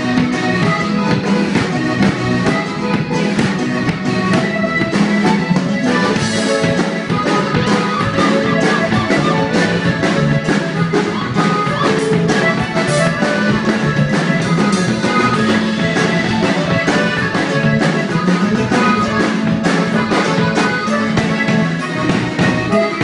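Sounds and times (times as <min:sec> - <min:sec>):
band playing live: 0:00.0 - 0:23.0
drum kit: 0:00.0 - 0:23.0
plucked guitar strings: 0:00.0 - 0:23.0.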